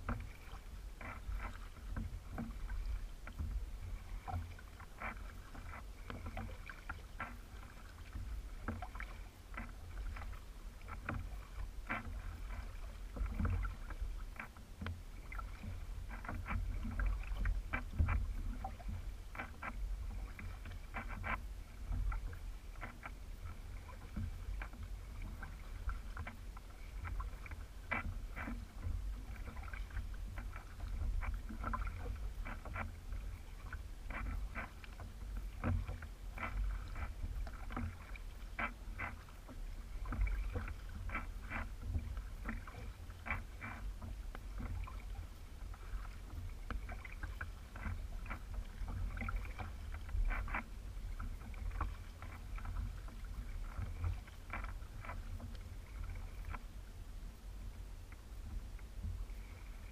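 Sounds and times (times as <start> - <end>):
water splashing off paddle blades: 0.0 - 59.9.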